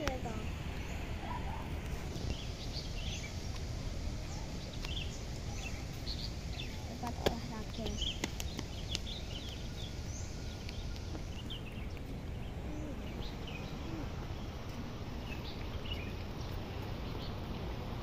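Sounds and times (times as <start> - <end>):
low background noise: 0.0 - 18.0
small birds chirping: 0.0 - 18.0.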